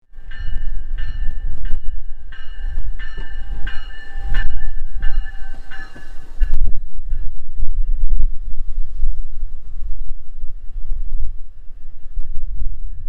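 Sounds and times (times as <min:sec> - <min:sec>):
train rumbling: 0:00.0 - 0:13.0
wind buffeting microphone: 0:00.0 - 0:13.0.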